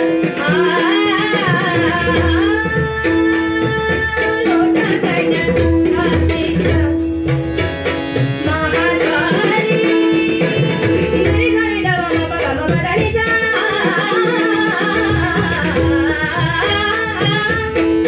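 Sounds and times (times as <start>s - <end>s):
hand drums rhythm: 0.0s - 18.0s
harmonium holding a note: 0.0s - 18.0s
woman singing: 0.0s - 18.0s.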